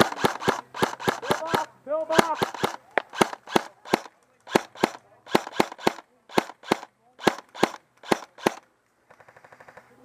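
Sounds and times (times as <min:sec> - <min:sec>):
airsoft gun single shots: 0:00.0 - 0:08.6.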